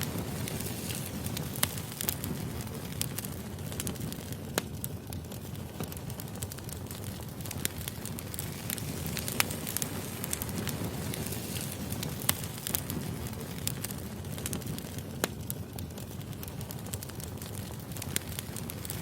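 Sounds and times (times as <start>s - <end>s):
firewood burning and crackling: 0.0s - 19.0s.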